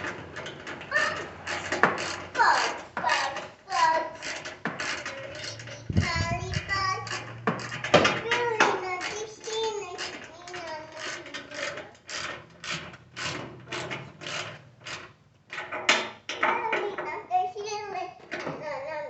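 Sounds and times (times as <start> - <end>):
hand ratchet clicking: 0.0 - 16.2.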